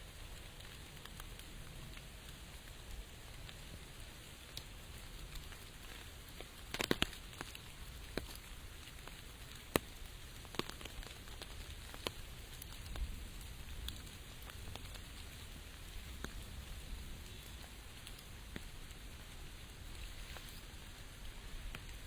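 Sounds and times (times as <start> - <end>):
rain falling with steady hiss: 0.0 - 22.0
sharp taps of raindrops: 0.2 - 22.0.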